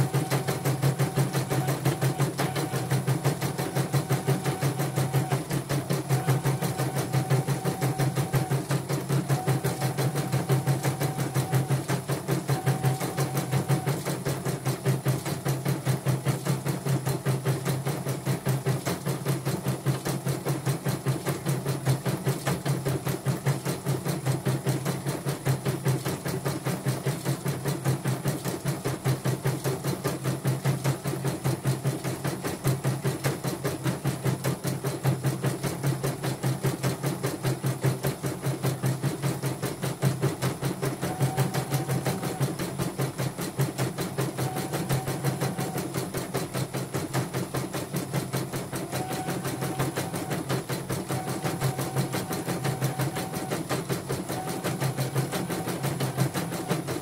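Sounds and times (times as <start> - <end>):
embroidery machine needle pounding: 0.0 - 57.0.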